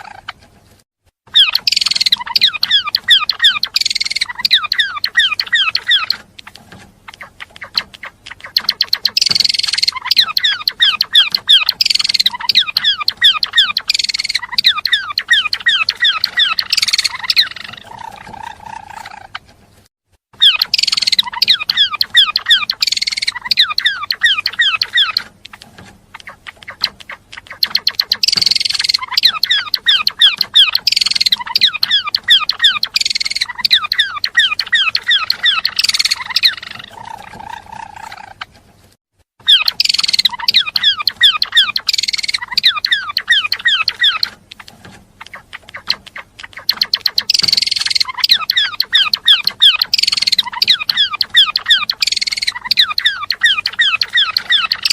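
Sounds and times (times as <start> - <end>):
songbird chattering chirps: 1.3 - 19.5, 20.4 - 38.5, 39.4 - 54.9.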